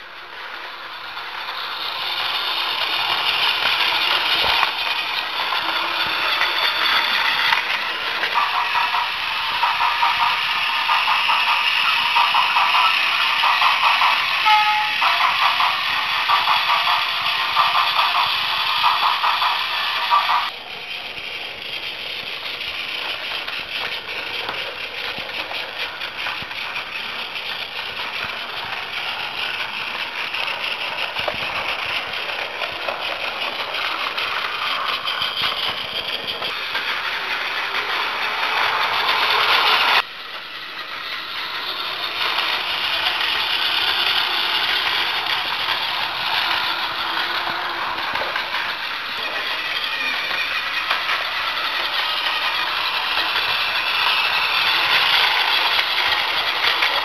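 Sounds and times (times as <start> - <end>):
toy train motor whirring: 0.0 - 57.0
wheels rattling on plastic rails: 0.5 - 14.4, 15.0 - 57.0.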